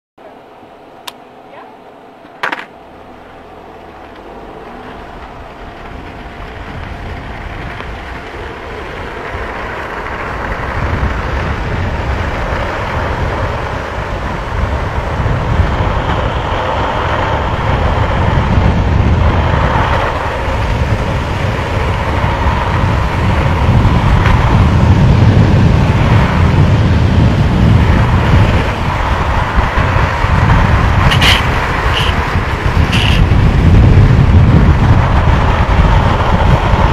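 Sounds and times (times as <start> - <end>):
longboard wheels rolling on asphalt: 1.8 - 36.9
wind rushing over microphone: 3.1 - 36.9.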